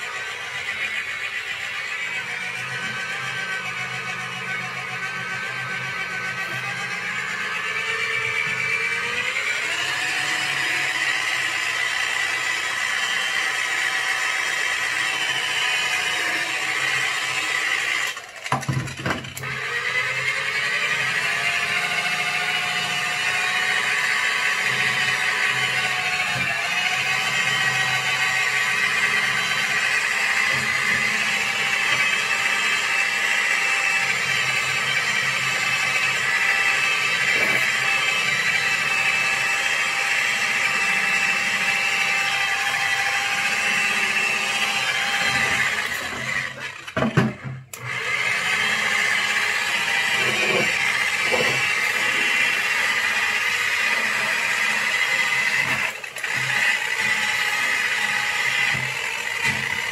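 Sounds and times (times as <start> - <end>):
electric buffer running: 0.0 - 59.9.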